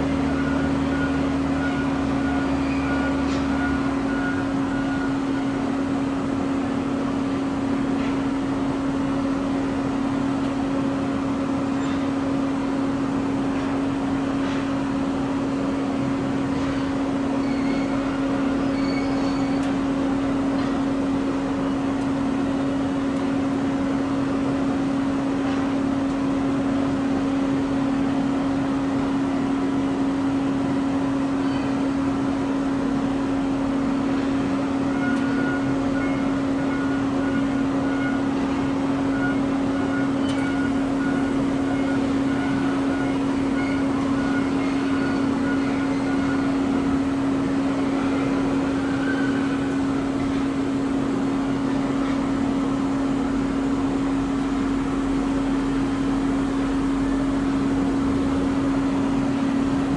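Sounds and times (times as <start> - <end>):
constant low hum: 0.0 - 59.9
machine drone with hiss: 0.0 - 59.9.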